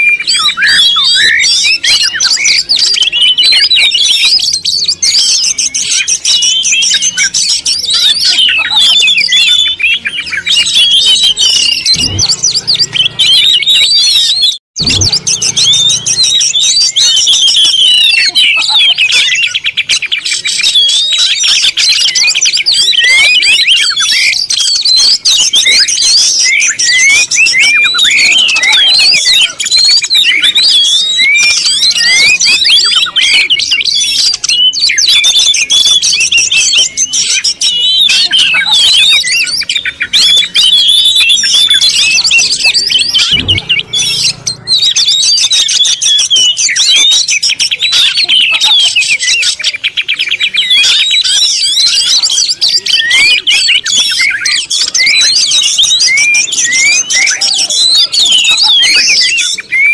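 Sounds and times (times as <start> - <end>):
birds chirping in chorus: 0.0 - 59.9.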